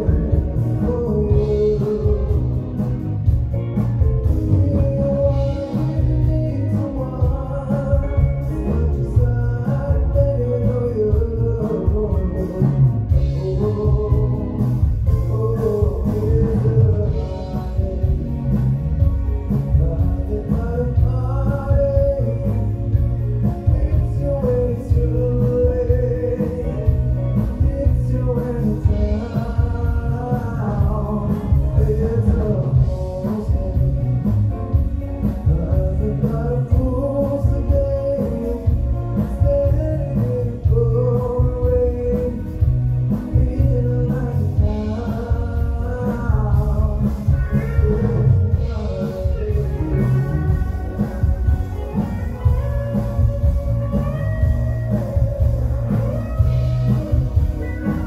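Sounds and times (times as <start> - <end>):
drums: 0.0 - 58.0
electric guitars: 0.0 - 58.0
male singer singing: 0.0 - 58.0.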